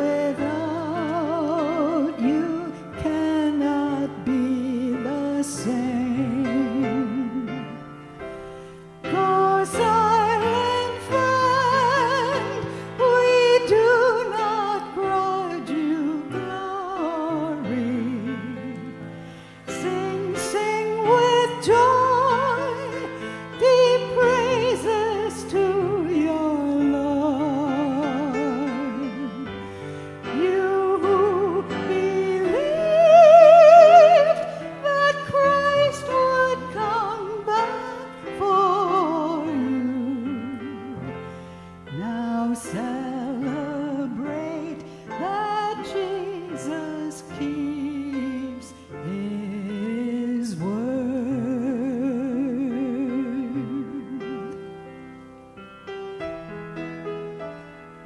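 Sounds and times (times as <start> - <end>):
person singing a hymn: 0.0 - 55.2.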